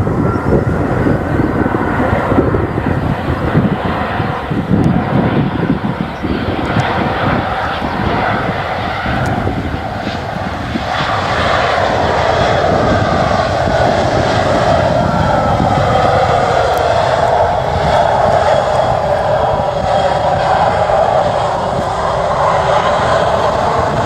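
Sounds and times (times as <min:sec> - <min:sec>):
aircraft engines running: 0:00.0 - 0:24.0
faint whine gliding in pitch: 0:00.0 - 0:24.0.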